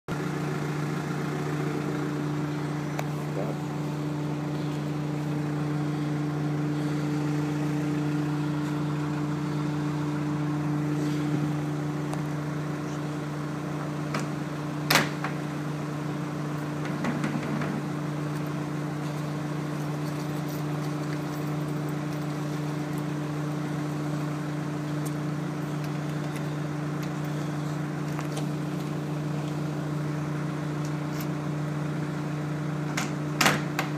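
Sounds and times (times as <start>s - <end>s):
low engine hum: 0.1s - 33.9s.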